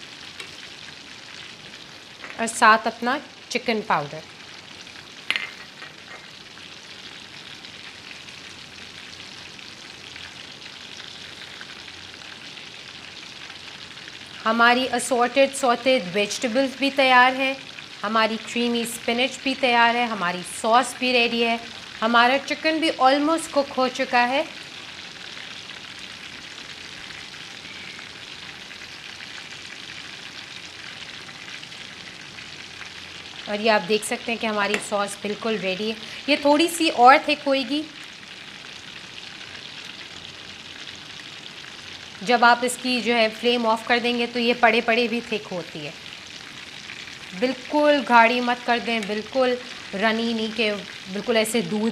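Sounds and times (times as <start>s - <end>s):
oil sizzling in a pan: 0.0s - 51.9s.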